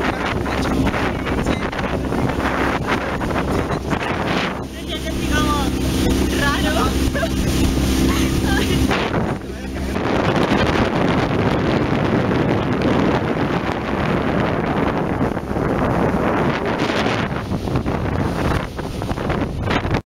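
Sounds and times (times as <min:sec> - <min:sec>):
boat moving over water: 0:00.0 - 0:20.0
wind rushing over microphone: 0:00.0 - 0:20.0.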